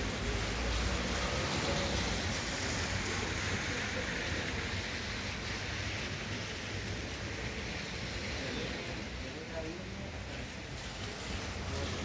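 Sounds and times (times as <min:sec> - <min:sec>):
car tyres on wet street: 0:00.0 - 0:12.0
rain on wet pavement: 0:00.0 - 0:12.0.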